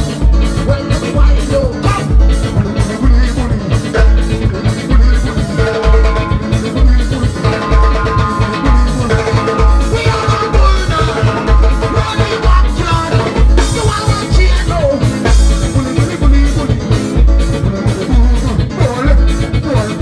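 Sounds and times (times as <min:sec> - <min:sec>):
deep bass notes: 0:00.0 - 0:20.0
loud band music: 0:00.0 - 0:20.0.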